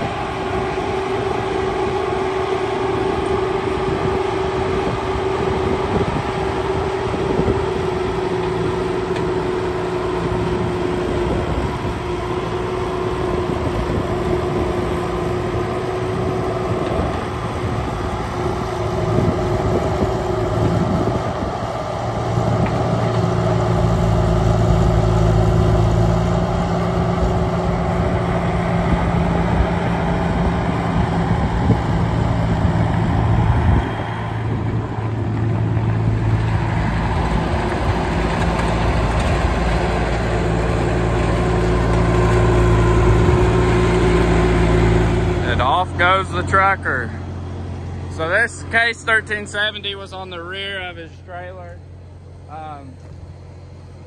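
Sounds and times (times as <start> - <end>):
diesel engine under load: 0.0 - 54.0
steady whine: 0.0 - 54.0.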